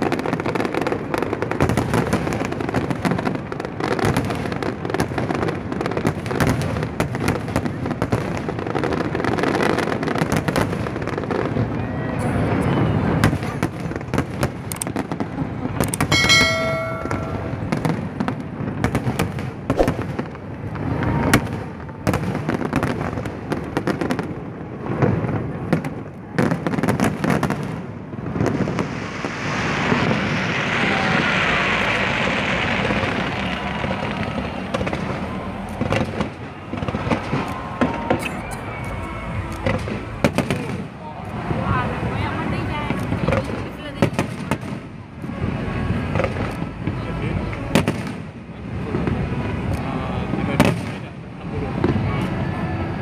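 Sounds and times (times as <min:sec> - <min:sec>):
rushing firework noise: 0:00.0 - 0:53.0.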